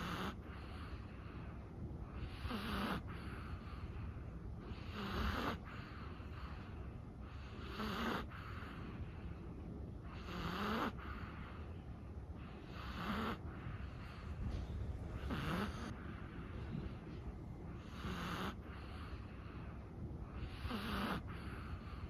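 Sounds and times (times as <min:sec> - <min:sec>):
dog snoring: 0:00.0 - 0:01.4, 0:02.0 - 0:09.2, 0:10.0 - 0:11.8, 0:12.4 - 0:17.1, 0:17.7 - 0:22.0.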